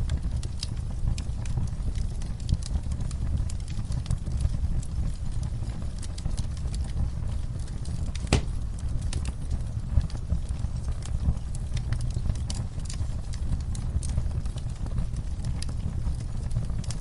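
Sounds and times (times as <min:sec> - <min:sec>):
fire flames rumbling: 0:00.0 - 0:17.0
wood fire crackling: 0:00.0 - 0:17.0.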